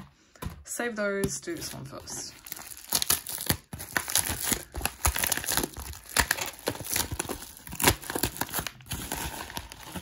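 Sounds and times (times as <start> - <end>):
plastic mailer crinkling and tearing: 1.5 - 10.0.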